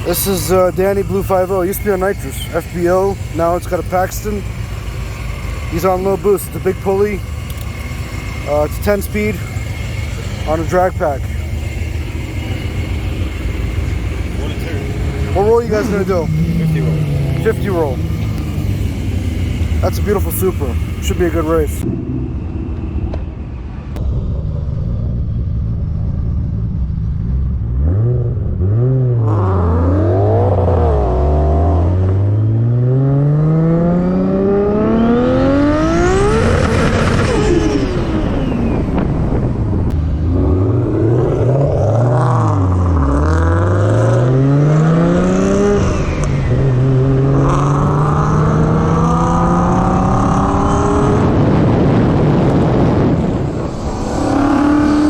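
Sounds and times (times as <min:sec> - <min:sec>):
car engines accelerating hard: 0:00.0 - 0:24.1, 0:25.3 - 0:55.0
high whine: 0:00.0 - 0:55.0.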